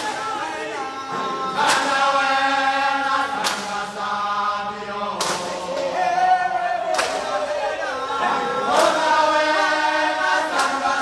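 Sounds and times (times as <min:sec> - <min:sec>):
sharp rhythmic hits: 0:00.0 - 0:06.2, 0:08.2 - 0:11.0
men singing a chant: 0:00.0 - 0:11.0.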